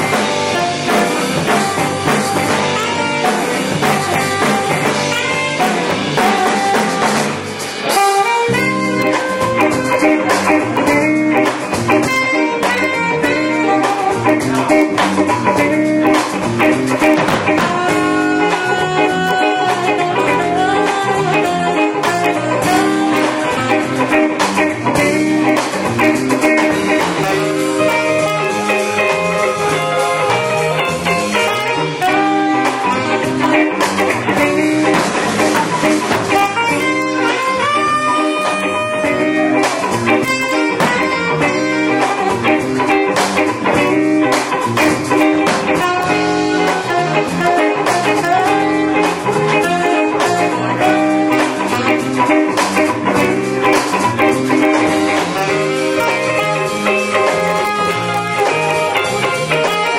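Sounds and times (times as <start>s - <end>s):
blues band playing: 0.0s - 59.9s.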